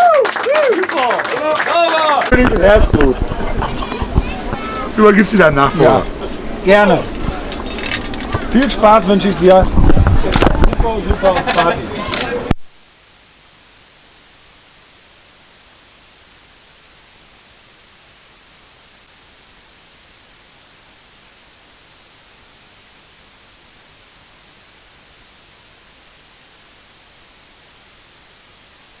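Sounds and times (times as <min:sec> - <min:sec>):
static hiss: 0:02.0 - 0:29.0.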